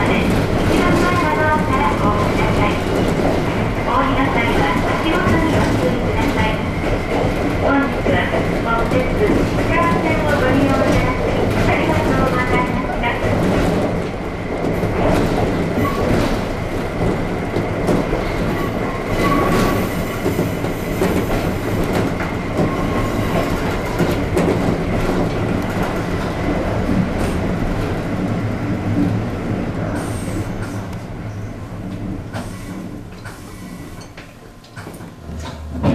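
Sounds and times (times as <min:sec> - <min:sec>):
train rumbling: 0:00.0 - 0:35.9.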